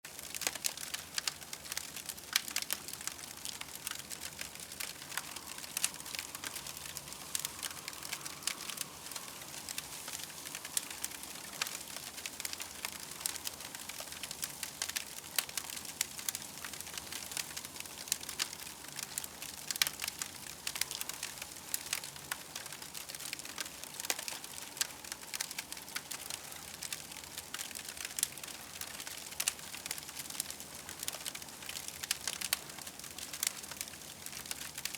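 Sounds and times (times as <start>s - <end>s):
campfire crackling and popping: 0.1s - 34.9s.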